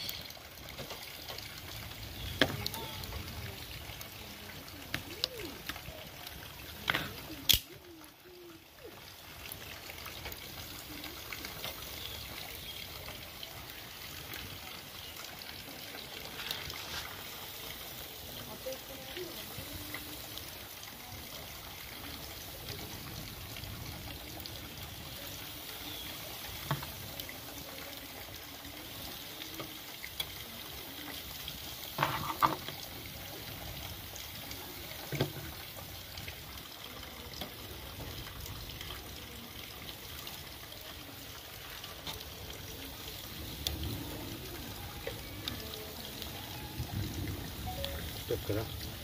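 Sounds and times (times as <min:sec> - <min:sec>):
crackling fire: 0:00.0 - 0:49.0
meat sizzling on a grill: 0:00.0 - 0:49.0.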